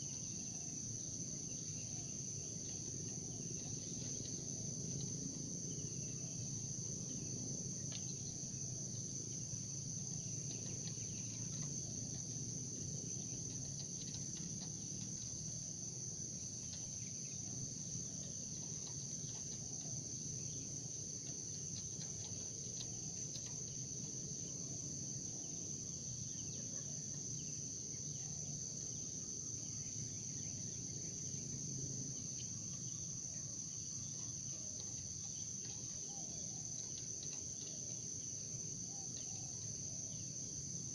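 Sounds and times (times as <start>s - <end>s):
insects chirping chorus: 0.0s - 40.9s
low field ambience: 0.0s - 40.9s.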